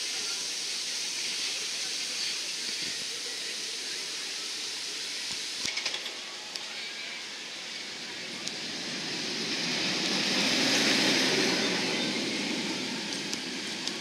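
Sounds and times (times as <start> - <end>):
outdoor noise hiss: 0.0 - 14.0.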